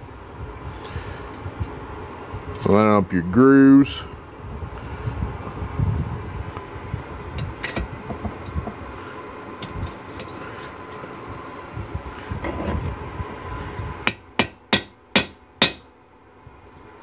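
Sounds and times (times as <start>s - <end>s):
steady shop hum: 0.0s - 17.0s.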